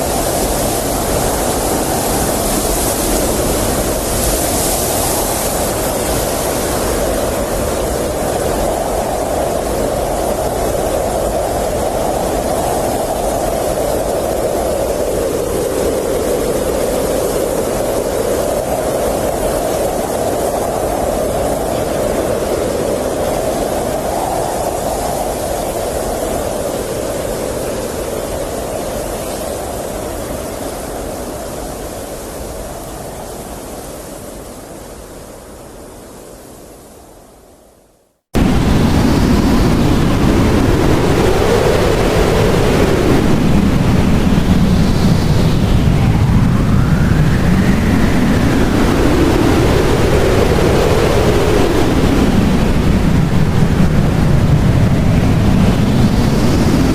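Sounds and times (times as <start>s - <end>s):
blizzard wind howling: 0.0s - 56.9s.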